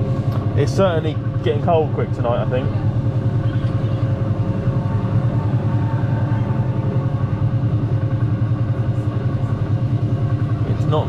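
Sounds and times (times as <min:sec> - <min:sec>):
faint steady hum: 0:00.0 - 0:11.0
ride vehicle motor rumbling: 0:00.0 - 0:11.0.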